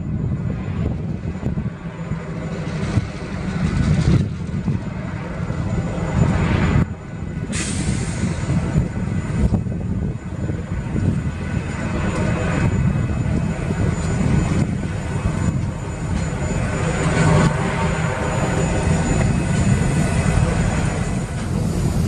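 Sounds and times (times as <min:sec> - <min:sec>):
locomotive engine rumble: 0:00.0 - 0:22.0.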